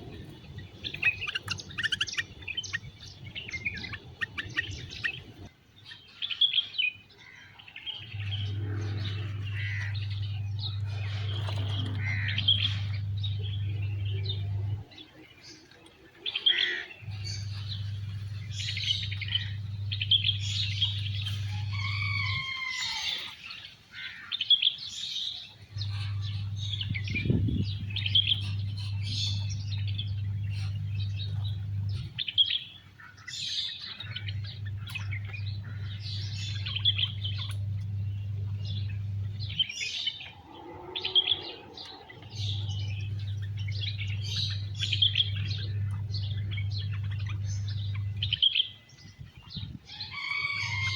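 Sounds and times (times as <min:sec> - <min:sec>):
low steady hum: 0:00.0 - 0:23.6, 0:25.4 - 0:50.9
small birds chirping: 0:00.0 - 0:50.9.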